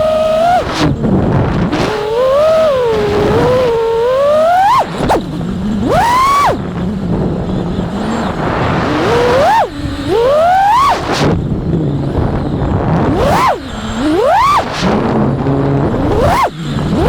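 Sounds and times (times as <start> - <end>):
drone motors whining: 0.0 - 17.0
rush of wind: 0.0 - 17.0.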